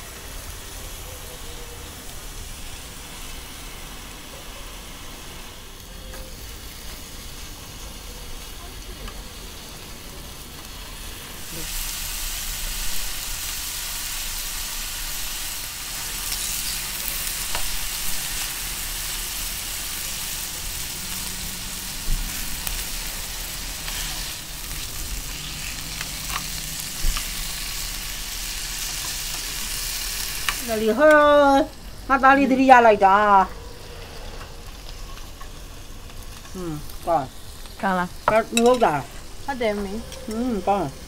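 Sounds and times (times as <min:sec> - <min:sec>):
meat sizzling on grill pan: 0:00.0 - 0:41.0.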